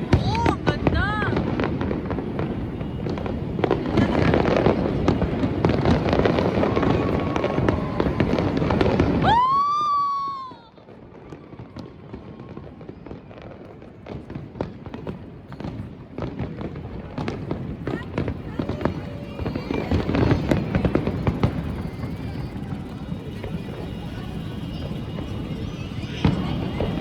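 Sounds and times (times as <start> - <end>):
firework whistle: 0.0 - 14.4, 15.0 - 27.0
fireworks crackling and banging: 0.0 - 27.0.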